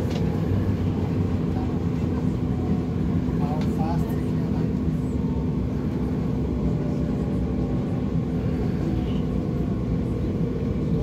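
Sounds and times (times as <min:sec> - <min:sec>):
constant train hum: 0:00.0 - 0:11.0
subway train wheels rumbling: 0:00.0 - 0:11.0.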